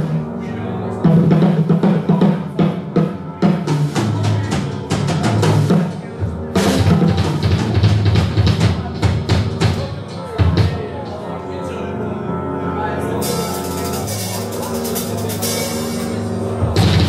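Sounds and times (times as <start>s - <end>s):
drum kit: 1.0s - 11.2s, 13.2s - 17.0s
live band playing: 1.0s - 11.2s, 13.1s - 17.0s.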